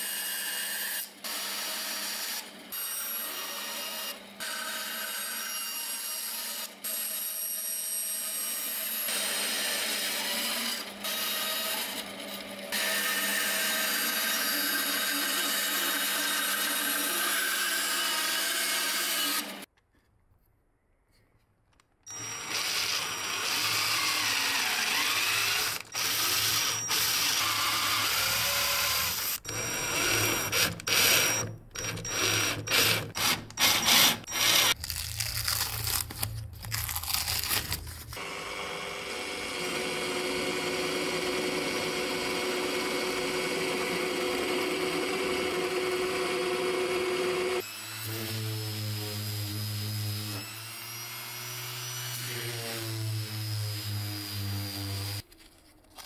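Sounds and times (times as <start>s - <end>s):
power drill boring plywood: 0.0s - 19.7s, 22.1s - 34.8s, 38.2s - 55.2s.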